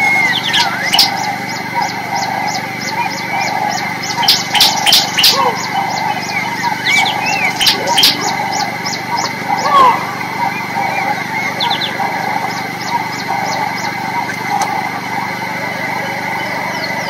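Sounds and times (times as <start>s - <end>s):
birds whistling swooping notes: 0.0s - 17.0s
sharp bird chirps: 0.0s - 17.0s.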